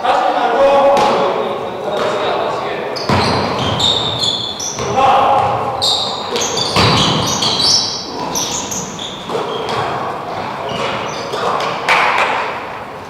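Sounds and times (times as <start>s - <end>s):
basketball bouncing: 0.9s - 12.9s
sneaker squeaks on floor: 0.9s - 13.0s.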